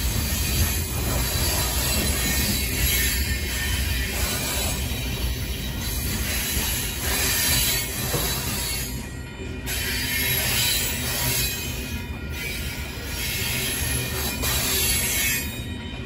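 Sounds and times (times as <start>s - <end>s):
freight train wheels rumbling: 0.0s - 16.0s
high wheel squeal: 0.1s - 15.8s.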